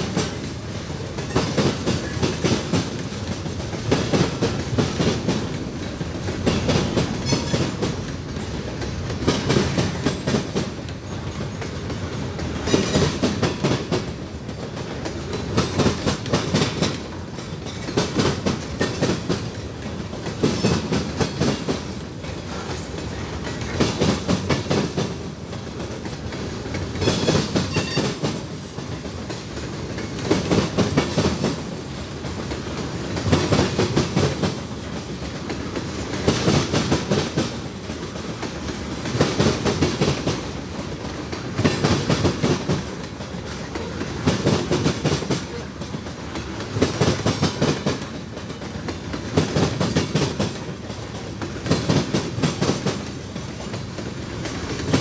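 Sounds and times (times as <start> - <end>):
low rumble of freight cars: 0.0 - 55.0
train wheels clattering over rail joints: 0.0 - 55.0.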